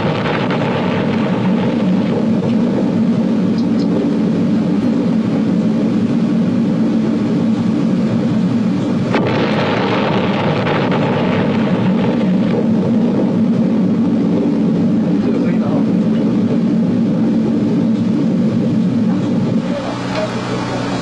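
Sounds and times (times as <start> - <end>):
deep rumble: 0.0 - 21.0.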